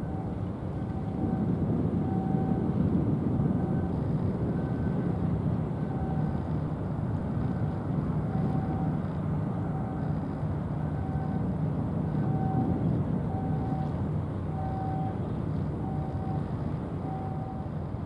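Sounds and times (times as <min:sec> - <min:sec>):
ship engine rumble: 0:00.0 - 0:18.0.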